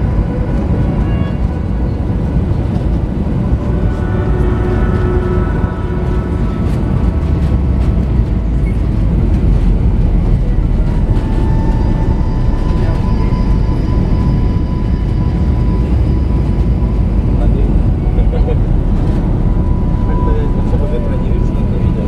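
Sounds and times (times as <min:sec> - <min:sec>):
airplane cabin rumble: 0:00.0 - 0:22.0
thin engine whine: 0:00.0 - 0:22.0.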